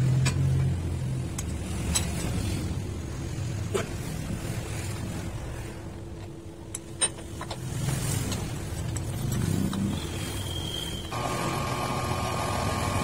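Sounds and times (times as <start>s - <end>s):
low hum of shop machinery: 0.0s - 13.0s.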